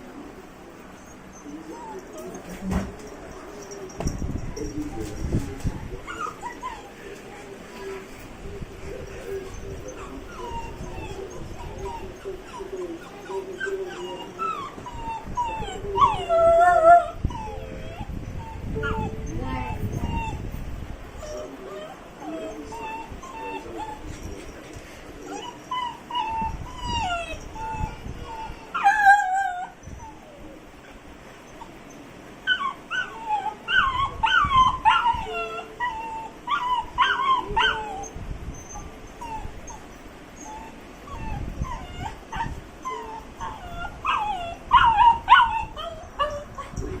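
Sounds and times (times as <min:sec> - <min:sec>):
dog whining and whimpering: 0:00.8 - 0:08.1, 0:09.0 - 0:20.5, 0:21.2 - 0:47.0.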